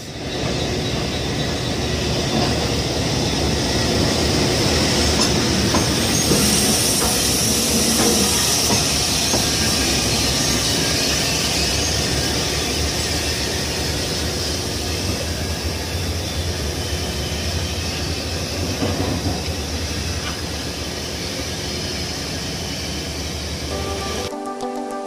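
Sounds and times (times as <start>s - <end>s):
steam hissing: 0.0s - 24.3s
steam locomotive moving slowly: 0.0s - 24.3s.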